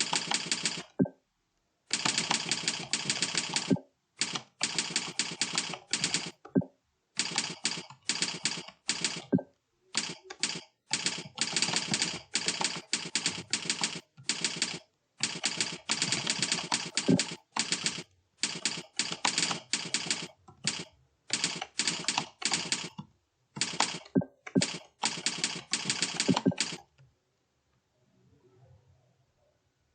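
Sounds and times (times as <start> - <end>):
fast keyboard typing: 0.0 - 1.1, 1.9 - 6.6, 7.2 - 23.0, 23.6 - 26.9.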